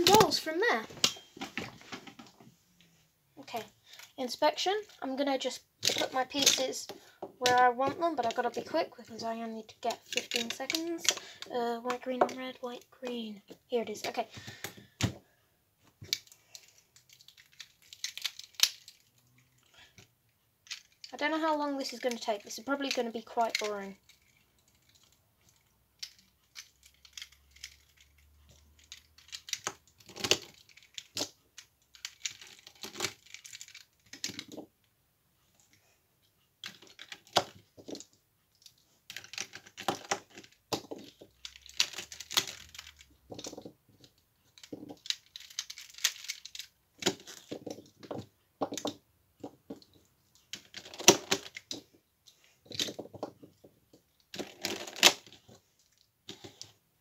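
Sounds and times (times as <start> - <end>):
plastic cube pieces clicking: 5.4 - 13.2, 16.0 - 34.7, 36.6 - 52.0, 52.6 - 56.7.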